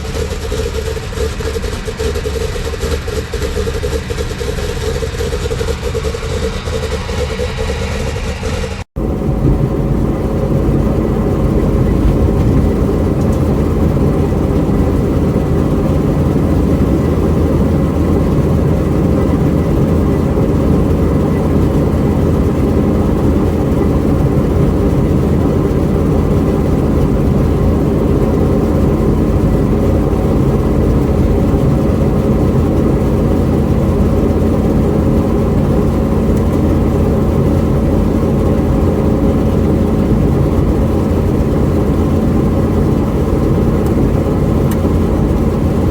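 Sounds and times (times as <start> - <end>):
car engine running steadily: 0.0 - 45.9.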